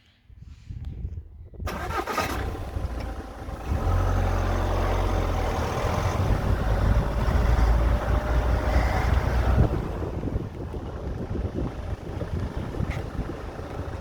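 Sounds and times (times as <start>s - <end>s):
diesel car engine starting and running: 1.6s - 14.0s.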